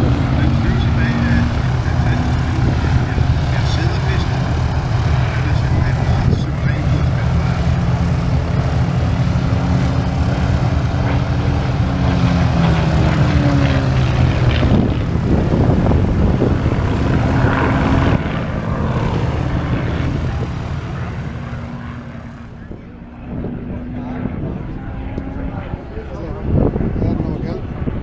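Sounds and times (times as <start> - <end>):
propeller engines droning: 0.0 - 28.0.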